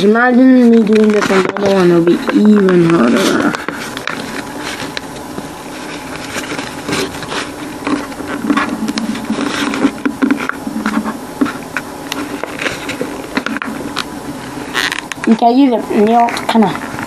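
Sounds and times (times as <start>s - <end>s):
cardboard crinkling and creasing: 0.0s - 17.0s
steady low hum: 0.0s - 17.0s.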